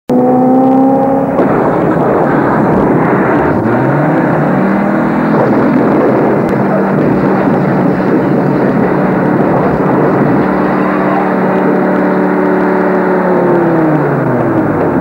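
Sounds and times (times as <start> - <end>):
truck engine revving: 0.1 - 15.0
truck tumbling rumble: 1.2 - 15.0.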